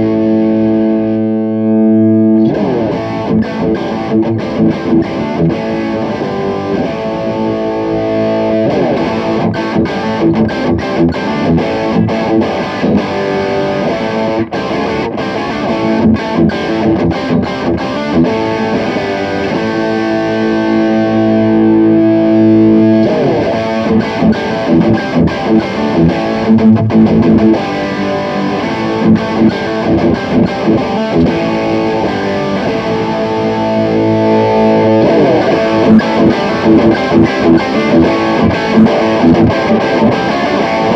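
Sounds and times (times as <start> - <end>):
distorted electric guitar riffs: 0.0 - 40.9.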